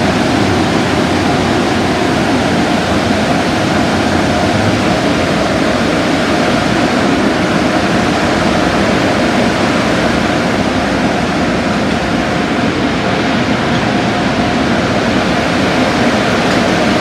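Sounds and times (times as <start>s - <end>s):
spraying water and machinery: 0.0s - 17.0s.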